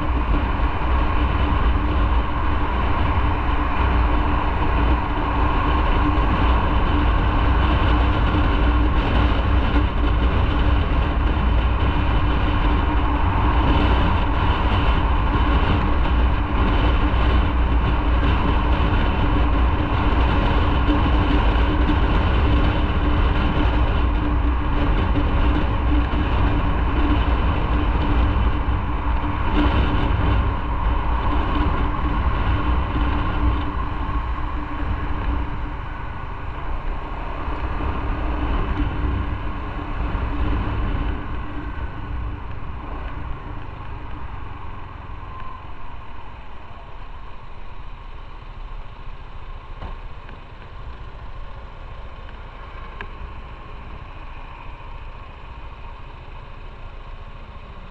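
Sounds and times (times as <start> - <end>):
motorcycle engine drone: 0.0 - 57.9
road and wind noise: 0.0 - 57.9.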